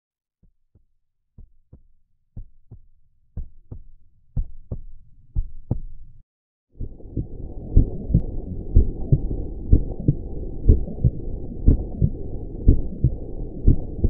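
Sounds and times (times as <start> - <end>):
heartbeat thumps: 0.4 - 6.1, 6.8 - 14.0.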